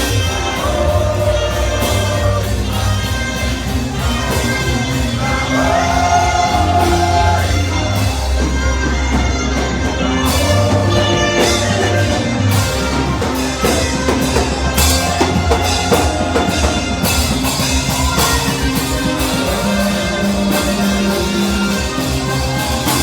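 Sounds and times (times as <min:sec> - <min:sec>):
drum kit beat: 0:00.0 - 0:23.0
live worship band music: 0:00.0 - 0:23.0.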